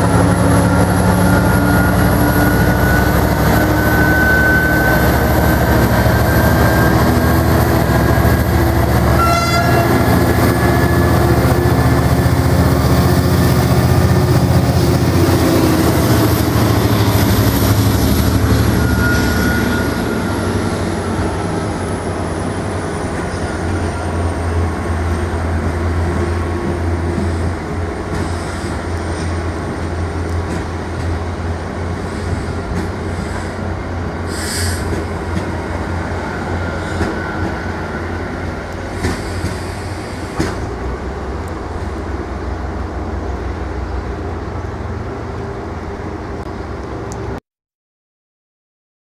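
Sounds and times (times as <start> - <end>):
train coaches rumbling past: 0.0 - 47.4.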